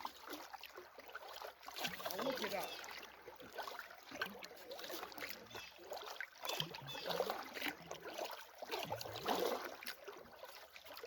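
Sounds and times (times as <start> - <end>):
paddle splashes and drips: 0.0 - 11.0.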